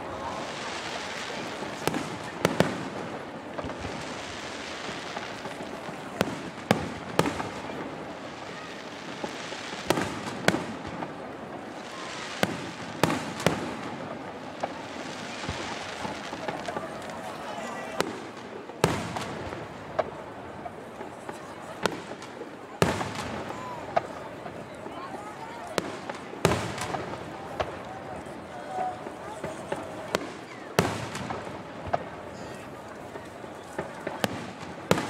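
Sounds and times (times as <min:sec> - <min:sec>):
crowd voices: 0:00.0 - 0:35.0.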